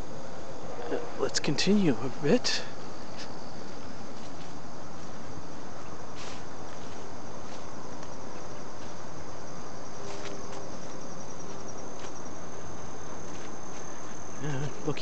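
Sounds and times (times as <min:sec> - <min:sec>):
insects trilling: 0:00.0 - 0:15.0
footsteps on grassy dirt trail: 0:02.9 - 0:15.0.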